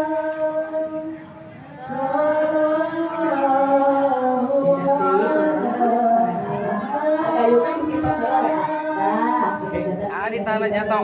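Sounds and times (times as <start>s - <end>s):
voices chanting unaccompanied: 0.0s - 11.0s.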